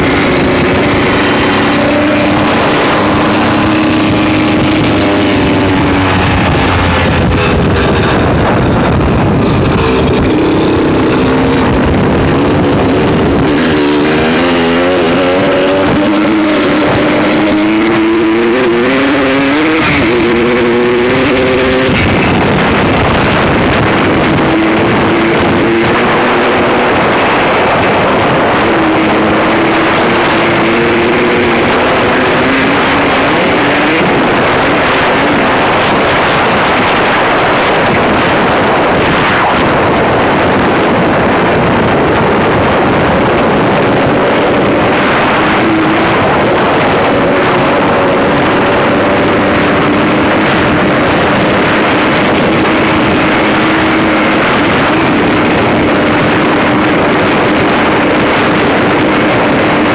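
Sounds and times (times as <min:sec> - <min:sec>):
motorcycle engine revving: 0:00.0 - 0:59.9
wind on microphone: 0:00.0 - 0:59.9.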